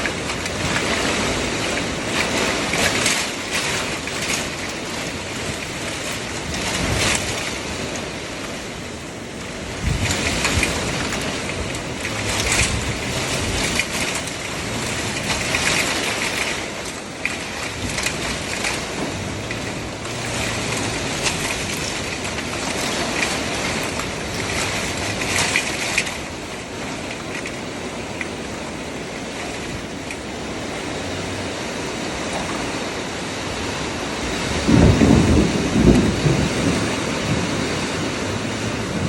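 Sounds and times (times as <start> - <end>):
rushing water: 0.0 - 39.0
wind: 0.0 - 39.0.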